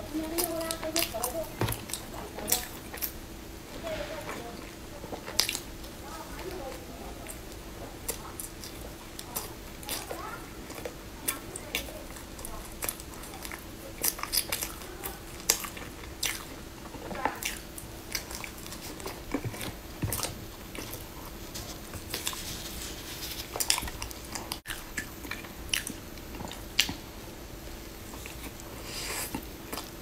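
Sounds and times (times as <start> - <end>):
person chewing bread: 0.0 - 3.2, 4.5 - 30.0
faint steady hum: 0.0 - 30.0.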